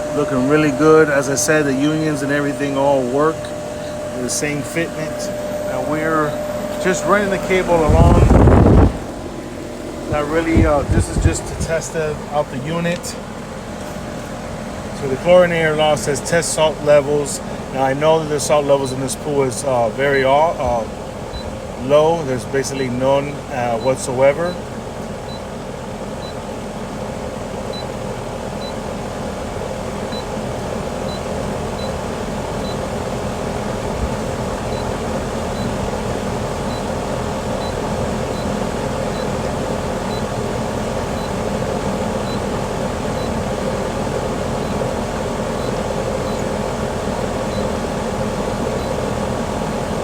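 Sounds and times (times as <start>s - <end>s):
pool pump motor humming: 0.0s - 50.0s.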